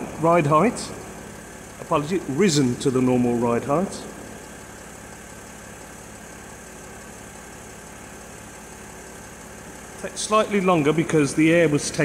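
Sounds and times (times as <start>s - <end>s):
air compressor running: 0.0s - 12.0s
car engine idling: 0.0s - 12.0s.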